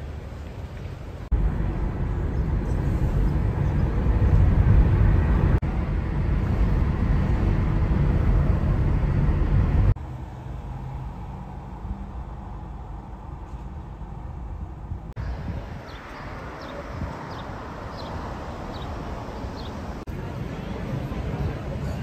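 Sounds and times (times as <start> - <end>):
car driving road noise: 0.0 - 22.0
street ambience: 0.0 - 22.0.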